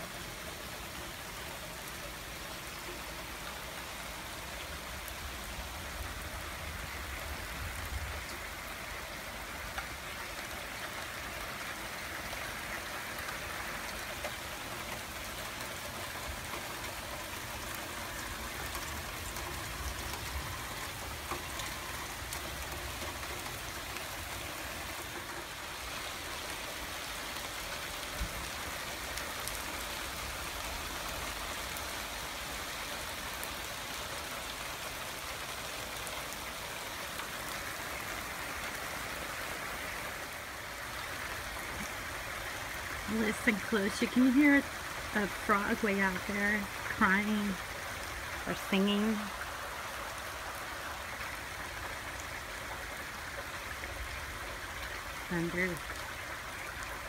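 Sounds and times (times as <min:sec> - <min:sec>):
rain falling on grass and paving: 0:00.0 - 0:57.0.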